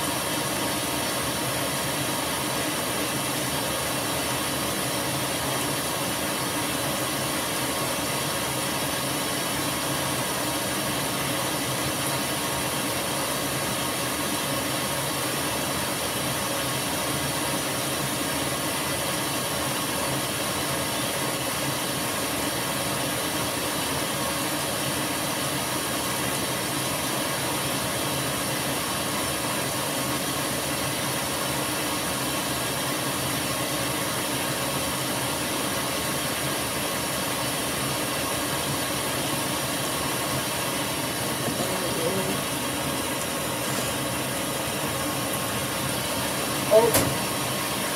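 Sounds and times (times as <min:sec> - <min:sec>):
washing machine hum: 0:00.0 - 0:47.9.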